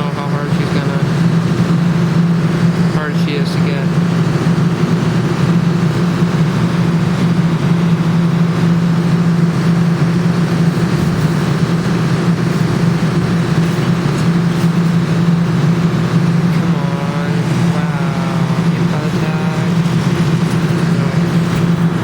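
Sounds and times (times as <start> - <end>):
claw machine mechanical hum: 0.0 - 22.0.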